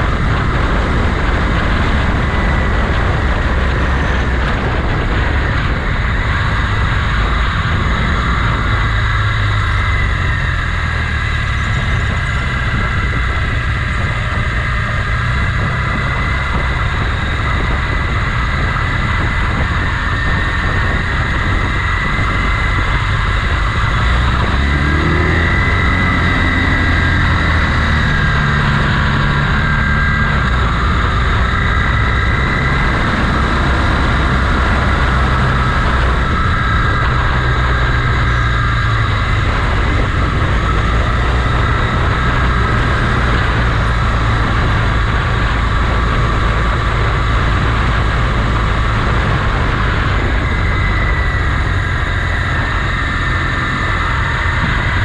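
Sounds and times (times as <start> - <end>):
motorcycle engine running: 0.0 - 55.0
steady rushing noise: 0.0 - 55.0.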